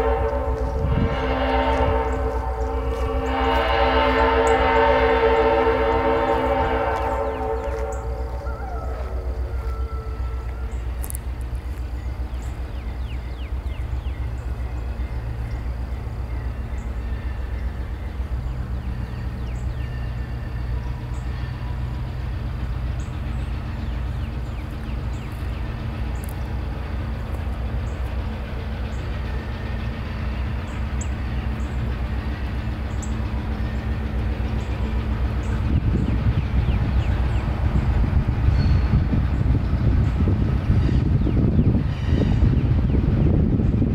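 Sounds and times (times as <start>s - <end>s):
diesel locomotive engine drone: 0.0s - 43.9s.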